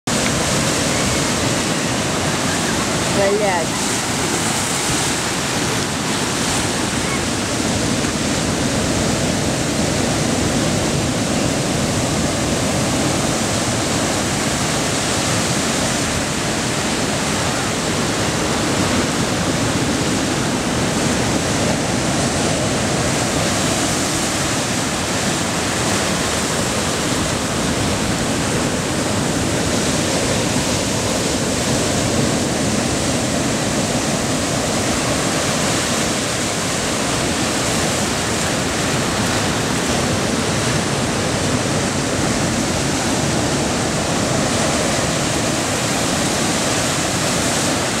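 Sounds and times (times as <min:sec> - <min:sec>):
surf breaking over rocks: 0:00.0 - 0:48.0.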